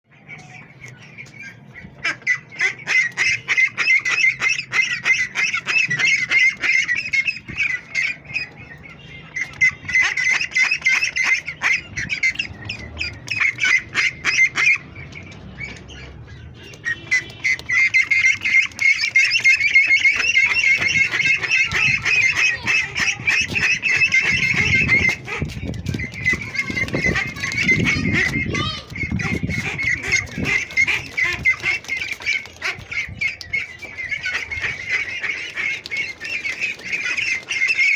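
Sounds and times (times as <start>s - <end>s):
ducklings calling: 0.1s - 37.9s.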